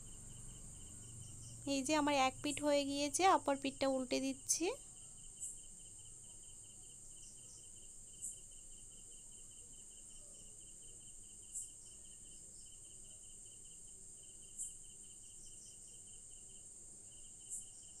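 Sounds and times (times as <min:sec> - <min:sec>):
insect pulsing chirp: 0:00.0 - 0:18.0
insects trilling: 0:00.0 - 0:18.0.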